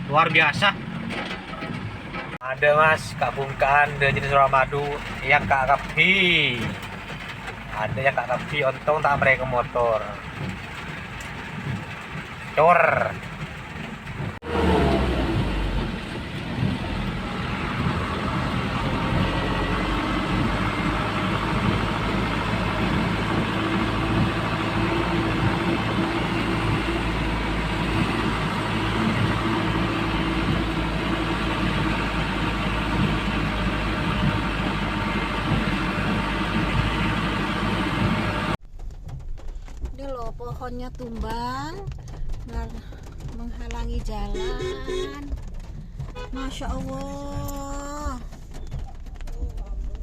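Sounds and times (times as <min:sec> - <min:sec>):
car engine hum: 0:00.0 - 0:50.0
road noise: 0:00.0 - 0:50.0.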